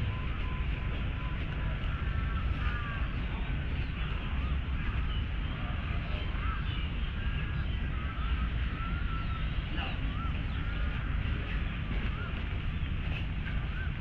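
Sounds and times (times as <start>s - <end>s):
birds chirping and whistling: 0.0s - 14.0s
distant city traffic rumble: 0.0s - 14.0s.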